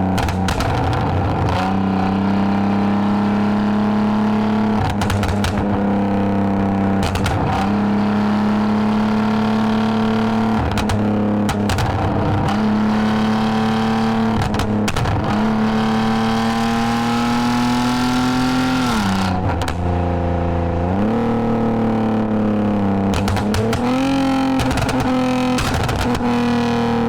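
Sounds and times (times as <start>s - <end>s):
car engine revving while driving: 0.0s - 27.0s.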